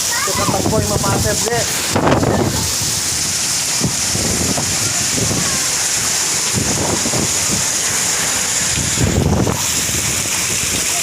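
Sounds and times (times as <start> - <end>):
heavy rain pouring: 0.0 - 11.0
wind gusting against microphone: 0.0 - 11.0.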